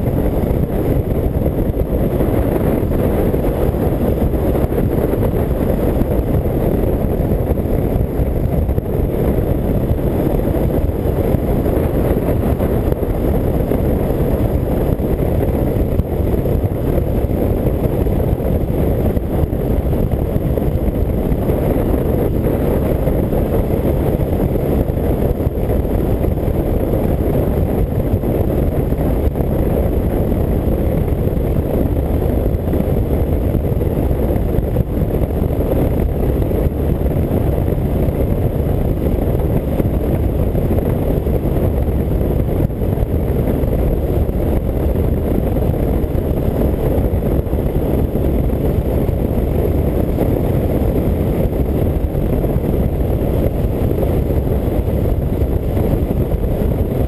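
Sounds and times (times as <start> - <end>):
motorcycle engine cruising: 0.0 - 57.0
wind rushing over microphone: 0.0 - 57.0.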